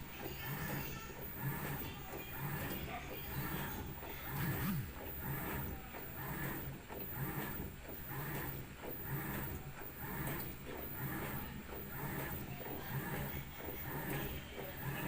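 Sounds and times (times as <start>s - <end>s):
washing machine churning water: 0.0s - 15.0s.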